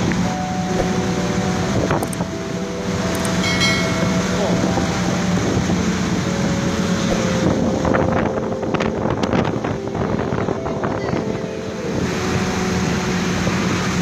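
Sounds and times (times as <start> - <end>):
boat engine running: 0.0 - 14.0
wind noise on microphone: 0.0 - 14.0.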